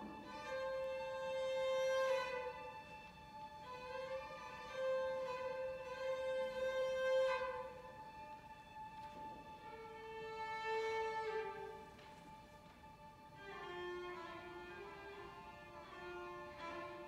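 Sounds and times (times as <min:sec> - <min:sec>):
orchestra bowed strings: 0:00.0 - 0:17.0.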